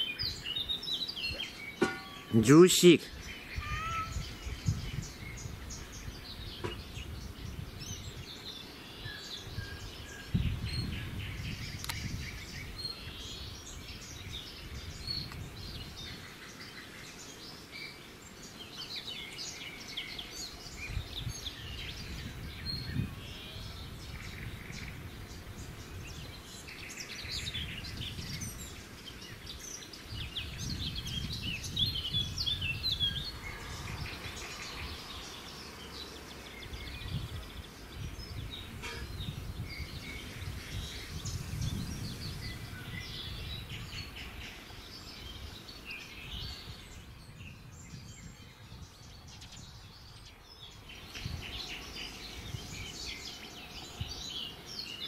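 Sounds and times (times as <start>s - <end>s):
small birds chirping and singing: 0.0s - 55.0s.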